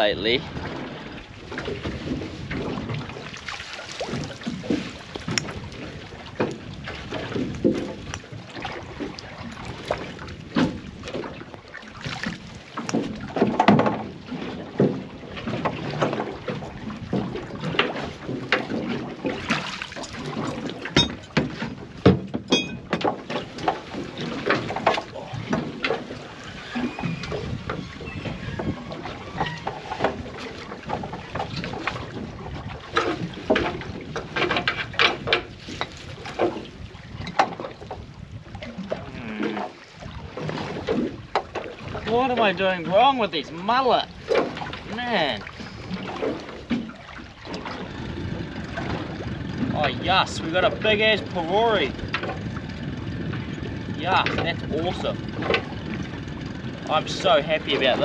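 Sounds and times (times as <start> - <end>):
water: 0.0 - 58.0
wind: 0.0 - 58.0
net knocking against boat: 1.5 - 38.1, 38.8 - 58.0.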